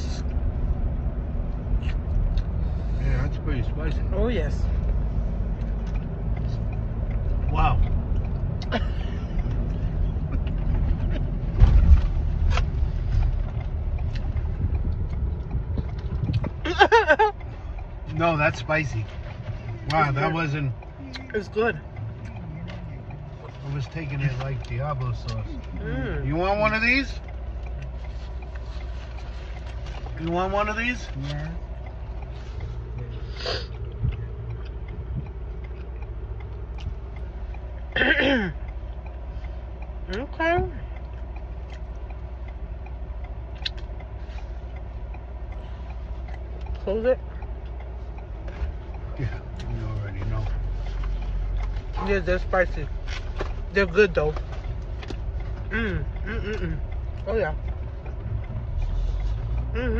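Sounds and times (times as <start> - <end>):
car rumble from inside cabin: 0.0 - 59.9.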